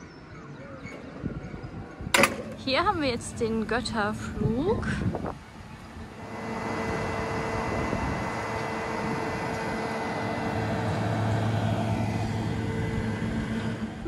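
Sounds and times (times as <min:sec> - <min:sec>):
ride machinery whirring: 0:00.0 - 0:14.0
low hum: 0:00.9 - 0:14.0.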